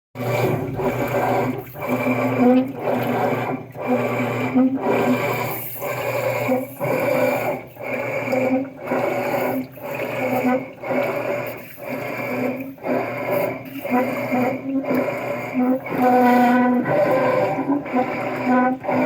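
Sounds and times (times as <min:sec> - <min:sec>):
washing machine agitating: 0:00.1 - 0:19.0
grinding noise: 0:00.2 - 0:19.0
water sloshing: 0:00.2 - 0:19.0.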